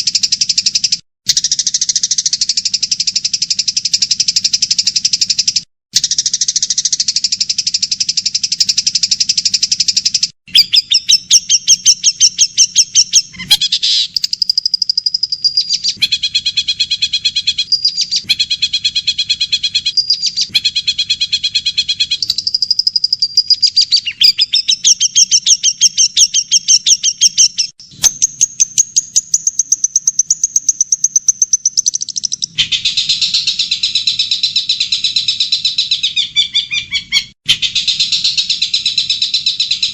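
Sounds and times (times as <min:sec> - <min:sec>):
buzzing bird trill: 0:00.0 - 0:39.9
songbird chirps and whistles: 0:00.0 - 0:39.9.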